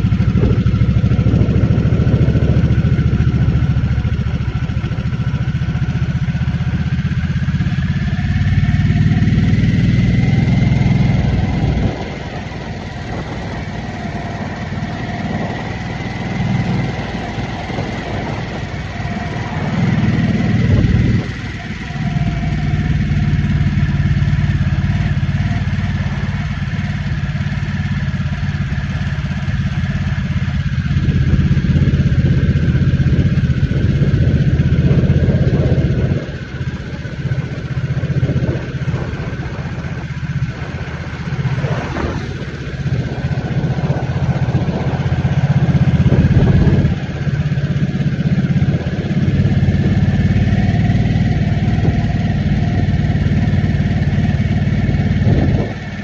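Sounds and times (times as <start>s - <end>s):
motorcycle engine at cruising speed: 0.0s - 56.0s.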